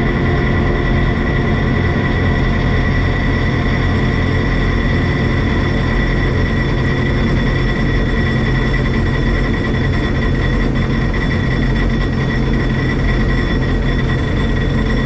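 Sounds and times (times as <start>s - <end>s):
machinery whine: 0.0s - 15.0s.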